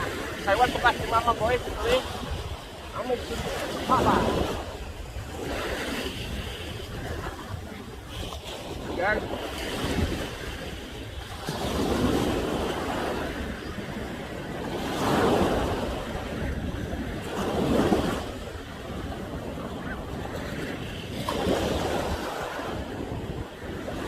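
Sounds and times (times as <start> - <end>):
ocean waves crashing on shore: 0.0 - 24.0.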